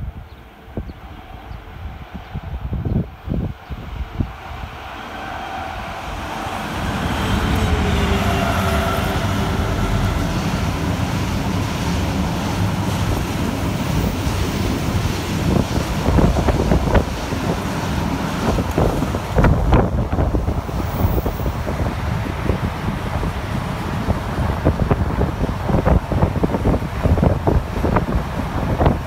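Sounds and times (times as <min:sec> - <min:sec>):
wind buffeting microphone: 0:00.0 - 0:29.0
diesel locomotive engine: 0:00.1 - 0:29.0.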